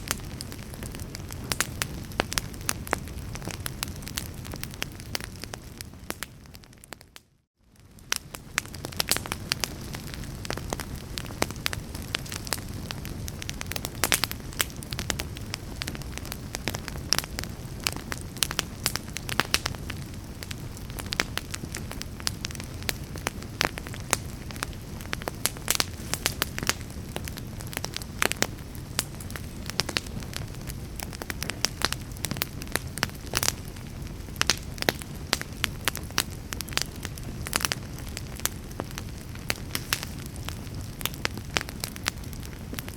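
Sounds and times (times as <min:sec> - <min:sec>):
fire crackling and popping: 0:00.0 - 0:42.9
flames burning: 0:00.0 - 0:42.9.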